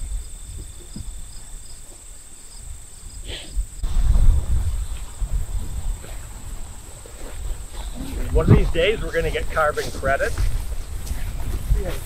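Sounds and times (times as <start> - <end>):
crickets trilling: 0.0 - 12.0
wind rumble on microphone: 0.0 - 12.0.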